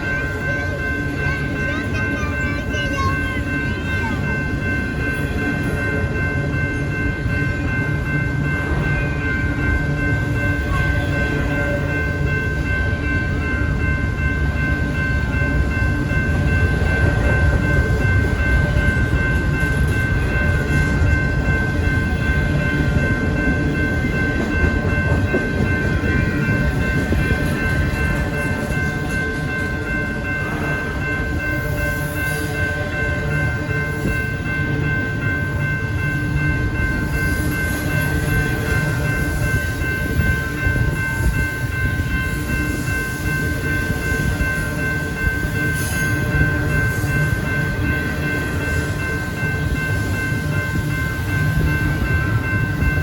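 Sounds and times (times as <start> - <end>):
crossing bell tones: 0.0 - 53.0
train rumbling past: 0.0 - 53.0.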